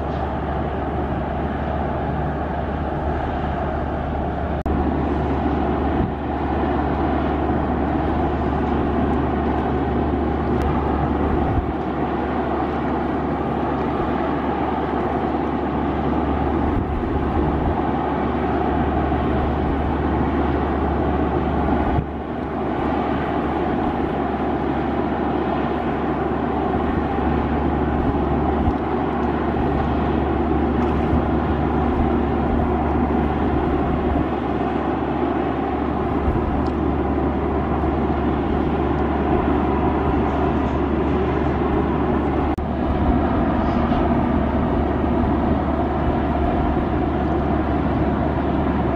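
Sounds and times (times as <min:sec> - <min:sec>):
ship diesel engine drone: 0:00.0 - 0:48.9.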